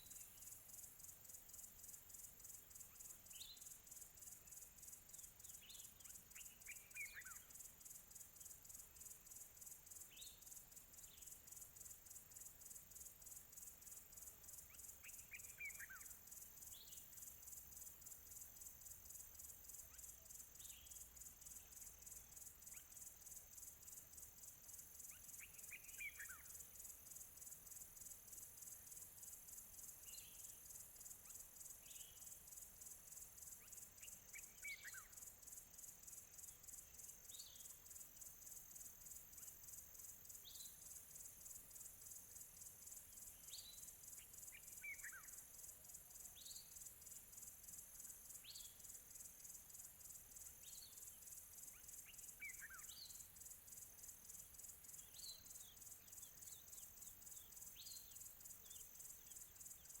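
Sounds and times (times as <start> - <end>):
crickets chirping: 0.0 - 60.0.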